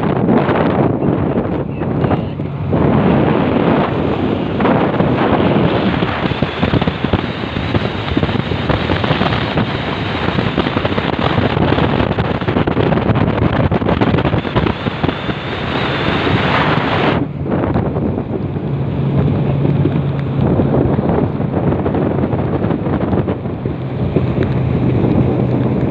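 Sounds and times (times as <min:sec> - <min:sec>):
outboard motor running: 0:00.0 - 0:25.9
water rushing past boat hull: 0:00.0 - 0:25.9
wind buffeting microphone: 0:00.0 - 0:25.9.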